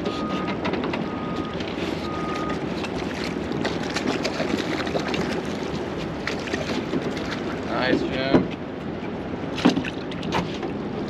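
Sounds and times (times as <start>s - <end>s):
water: 0.0s - 11.0s
wind: 0.0s - 11.0s.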